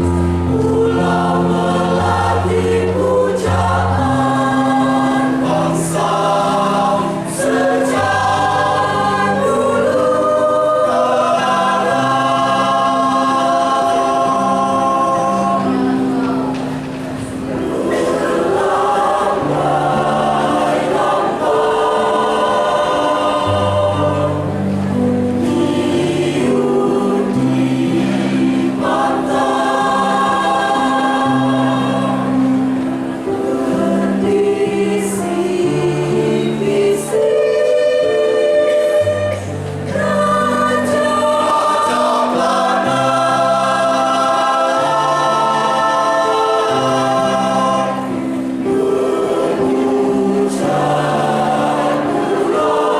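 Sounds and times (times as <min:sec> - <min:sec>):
choir singing in parts: 0:00.0 - 0:52.9.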